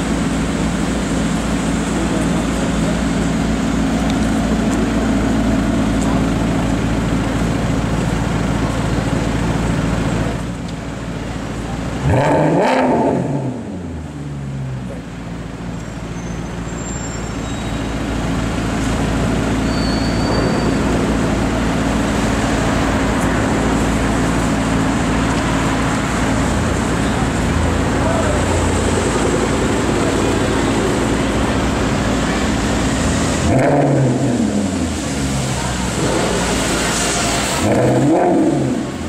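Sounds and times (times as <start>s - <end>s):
car engine idling and revving: 0.0s - 39.0s
traffic noise: 0.0s - 39.0s.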